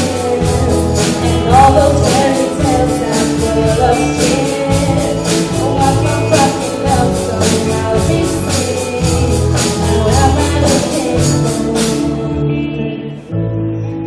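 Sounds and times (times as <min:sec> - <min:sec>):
sharp percussion hits: 0:00.0 - 0:12.1
live pop band music: 0:00.0 - 0:14.0.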